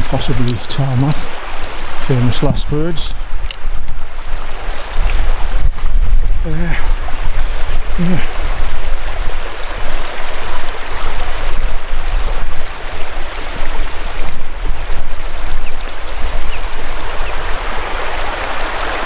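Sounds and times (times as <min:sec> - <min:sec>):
stream running over stones: 0:00.0 - 0:19.0.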